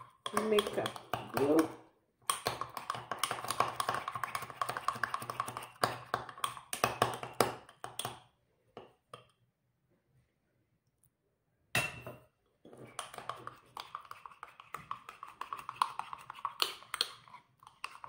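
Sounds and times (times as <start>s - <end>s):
stirring paste in ceramic cup: 0.0s - 9.4s, 12.6s - 18.0s.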